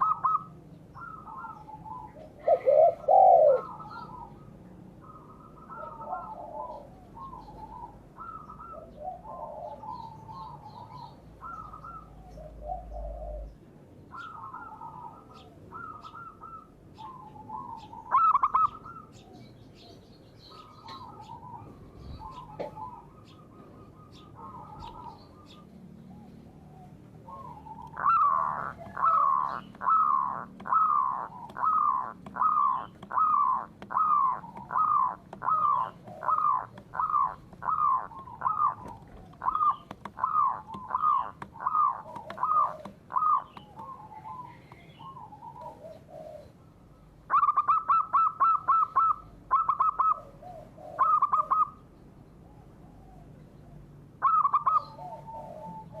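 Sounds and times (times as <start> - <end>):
bird calling with trilled notes: 0.0 - 46.5, 47.3 - 51.9, 54.2 - 56.0.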